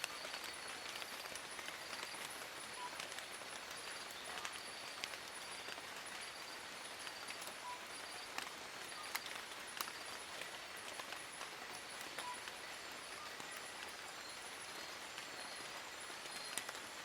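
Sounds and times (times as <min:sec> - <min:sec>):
drops clicking on leaves: 0:00.0 - 0:17.0
rain hissing in a forest: 0:00.0 - 0:17.0.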